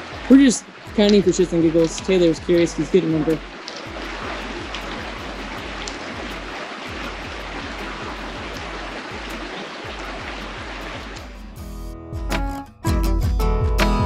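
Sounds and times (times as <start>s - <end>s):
river rushing over rocks: 0.0s - 11.4s.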